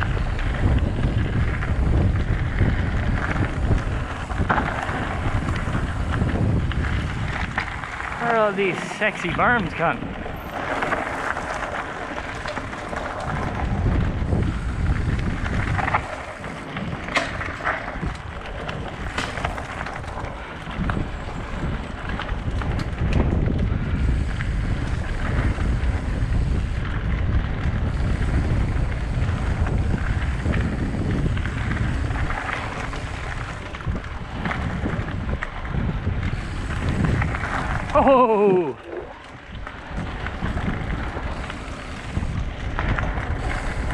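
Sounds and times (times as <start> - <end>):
bike clattering over bumps: 0.0 - 43.9
tyres on loose gravel: 0.0 - 43.9
wind buffeting microphone: 0.0 - 43.9.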